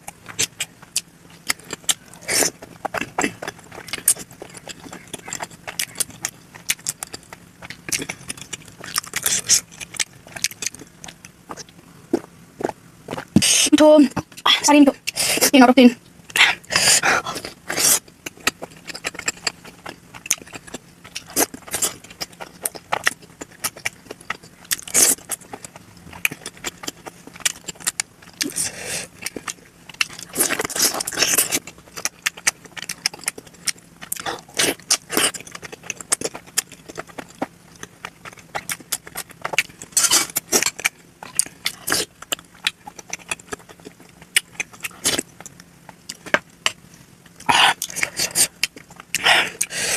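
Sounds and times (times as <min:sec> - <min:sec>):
wet chewing and mouth clicks: 0:00.0 - 0:13.6, 0:16.3 - 0:49.9.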